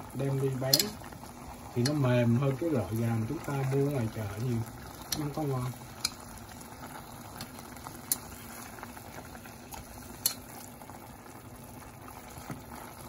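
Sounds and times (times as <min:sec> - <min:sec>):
liquid bubbling in saucepan: 0:00.0 - 0:13.0.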